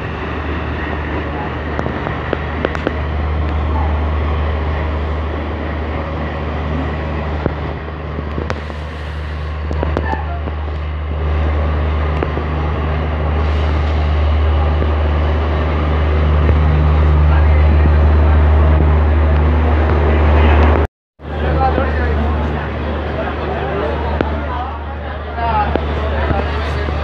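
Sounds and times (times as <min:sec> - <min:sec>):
train rolling hum: 0:00.0 - 0:27.0.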